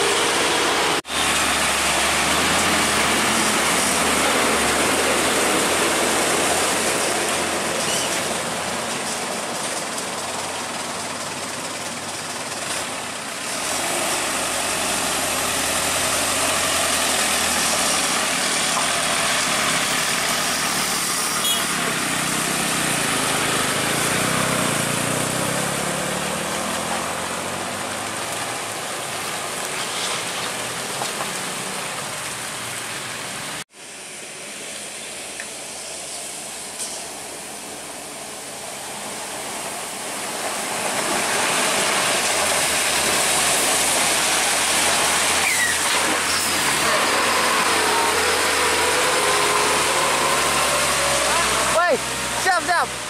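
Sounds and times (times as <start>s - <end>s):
heavy diesel truck engine labouring: 0.0s - 53.0s
traffic: 0.0s - 53.0s
tyre noise on wet road: 0.0s - 53.0s.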